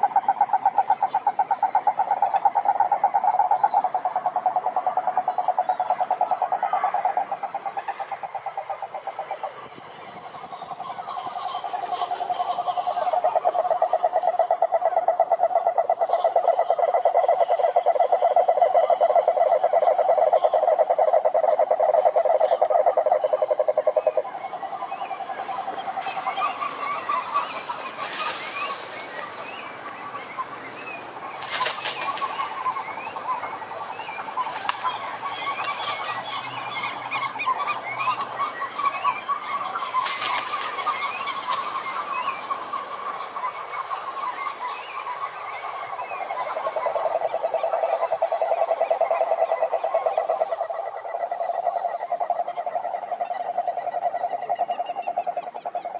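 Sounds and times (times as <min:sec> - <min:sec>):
toads trilling: 0:00.0 - 0:09.6, 0:10.2 - 0:28.0, 0:32.4 - 0:55.9.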